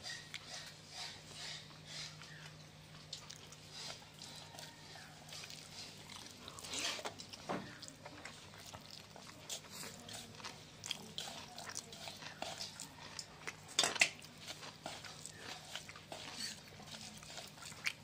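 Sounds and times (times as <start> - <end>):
fingers mixing wet food: 0.0 - 18.0.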